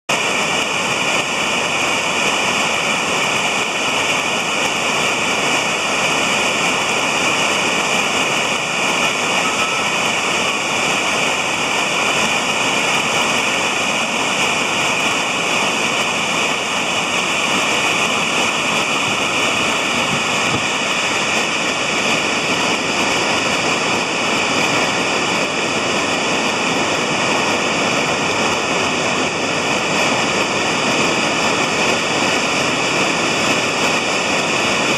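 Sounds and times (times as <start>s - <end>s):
river rushing over rapids: 0.1s - 34.9s.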